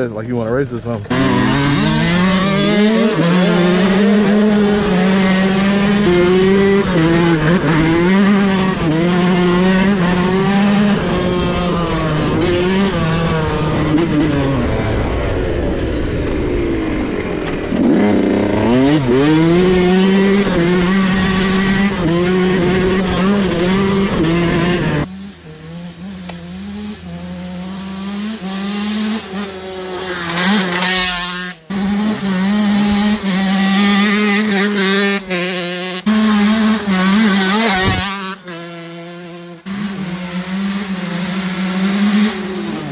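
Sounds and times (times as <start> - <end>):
dirt bike engine up close: 0.0 - 42.9
distant dirt bike engine: 0.0 - 42.9.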